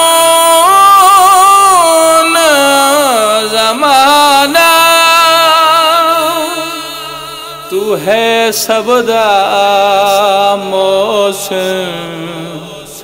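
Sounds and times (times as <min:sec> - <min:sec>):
man singing a lament: 0:00.0 - 0:13.0.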